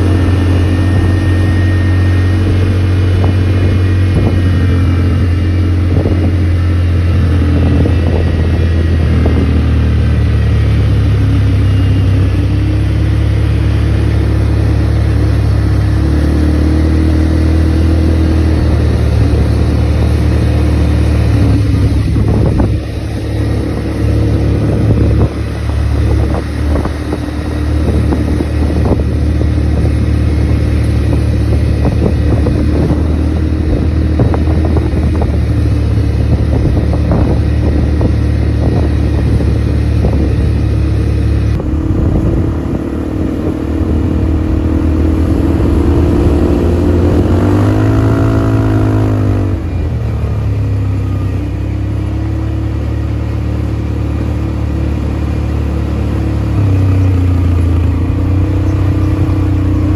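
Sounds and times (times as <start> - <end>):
engine running under load: 0.0 - 59.9.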